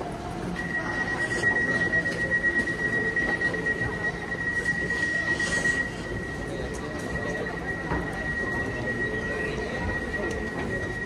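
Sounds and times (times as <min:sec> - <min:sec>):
train high-pitched squeal: 0:00.6 - 0:11.0.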